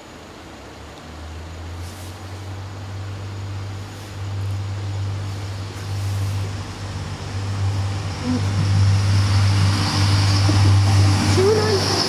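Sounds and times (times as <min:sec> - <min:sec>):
high hiss: 0:00.0 - 0:12.0
train rumbling: 0:01.8 - 0:12.0.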